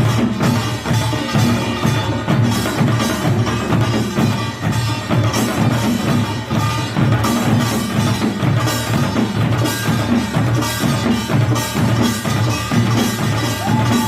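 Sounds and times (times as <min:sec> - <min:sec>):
low drums beating: 0:00.0 - 0:14.0.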